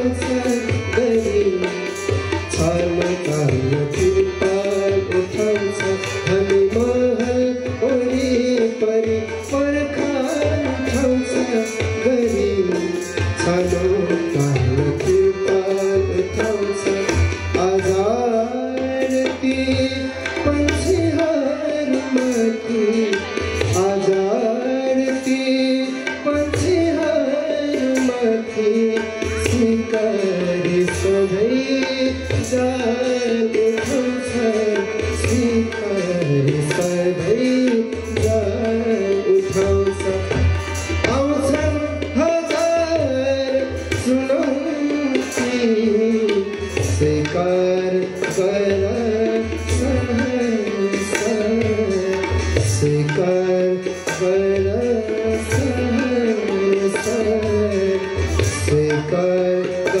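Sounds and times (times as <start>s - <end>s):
harmonium melody: 0.0s - 60.0s
tabla strokes: 0.0s - 60.0s.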